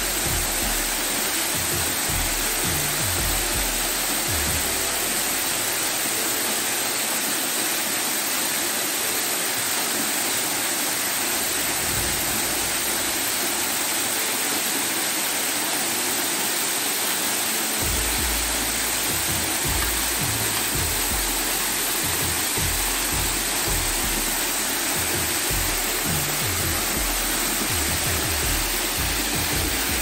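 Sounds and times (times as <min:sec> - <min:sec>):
waterfall pouring onto rocks: 0:00.0 - 0:30.0.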